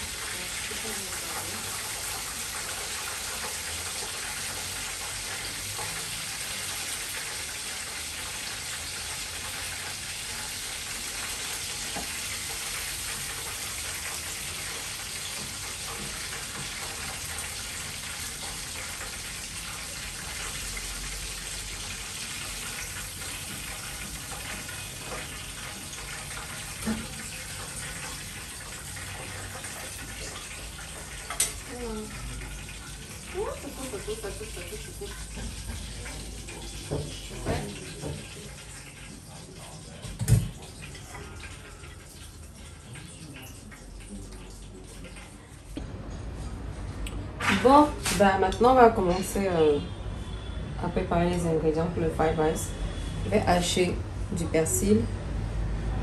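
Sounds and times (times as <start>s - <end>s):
chicken frying in oil: 0.0s - 45.8s, 46.9s - 56.0s.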